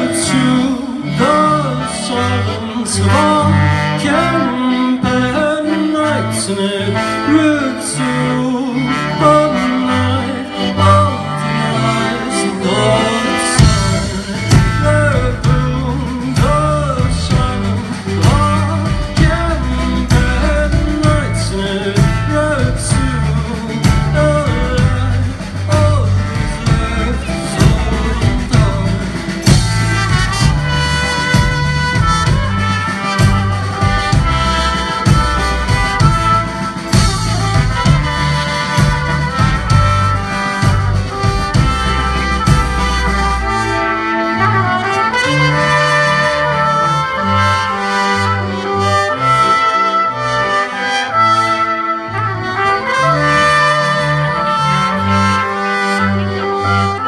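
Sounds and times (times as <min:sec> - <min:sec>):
man singing lead vocals: 0:00.0 - 0:50.0
live band playing folk-pop: 0:00.0 - 0:57.0
trumpet lead: 0:00.0 - 0:57.0.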